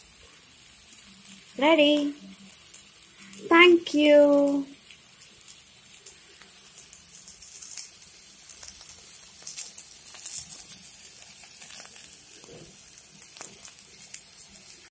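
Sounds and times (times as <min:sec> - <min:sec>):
vegetables sizzling in hot oil: 0:00.0 - 0:14.9.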